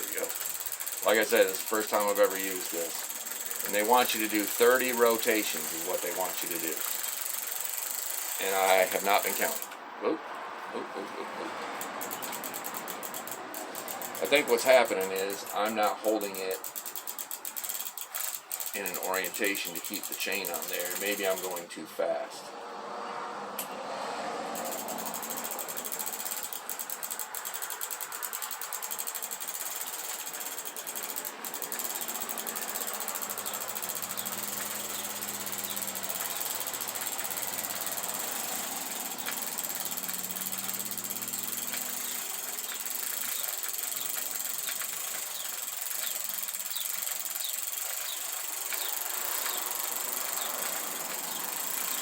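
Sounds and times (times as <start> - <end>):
chain scrubbing through brushes: 0.0 - 9.7, 11.7 - 21.6, 24.6 - 52.0
freewheel ratchet clicking: 0.0 - 9.8, 11.5 - 21.7, 24.6 - 52.0.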